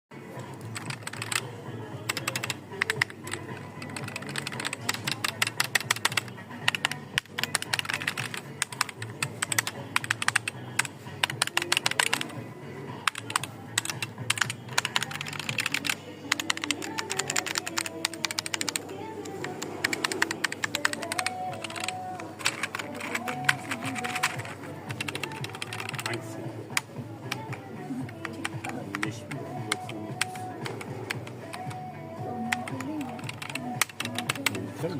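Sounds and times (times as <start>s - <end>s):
faint background music: 0.1s - 34.9s
mechanical keyboard typing: 0.6s - 12.4s, 13.0s - 34.7s.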